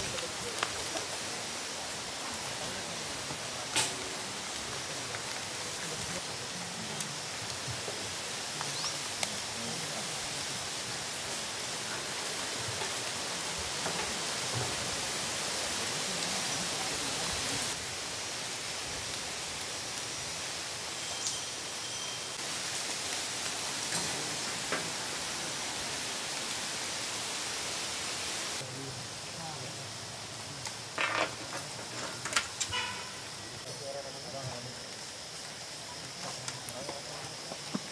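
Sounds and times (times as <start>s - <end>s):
outdoor background hiss: 0.0s - 37.9s.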